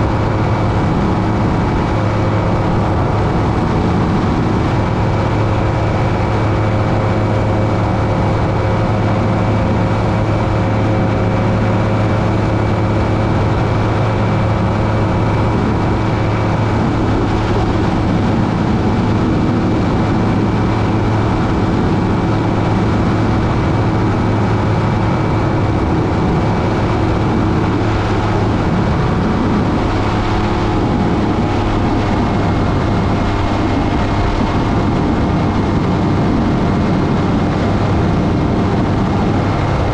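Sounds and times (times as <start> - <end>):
two-stroke engine running: 0.0 - 39.9
wind rushing: 0.0 - 39.9.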